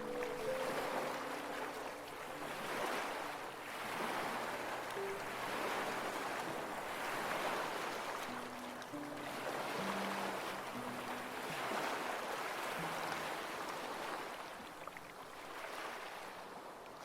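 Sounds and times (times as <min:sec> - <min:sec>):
soft background music: 0:00.0 - 0:15.4
ocean waves washing in: 0:00.0 - 0:16.8.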